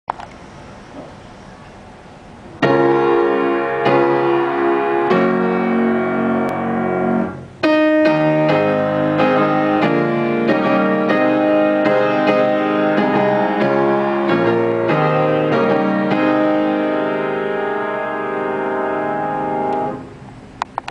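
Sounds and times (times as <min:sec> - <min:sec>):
piano chords: 0:02.2 - 0:20.6.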